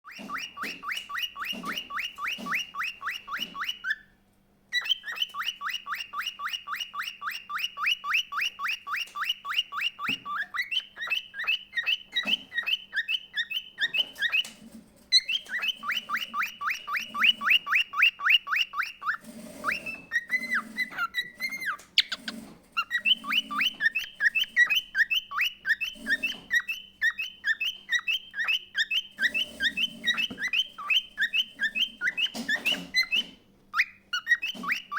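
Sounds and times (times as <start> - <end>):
bird trilling: 0.1 - 4.1, 4.7 - 14.5, 15.1 - 34.9.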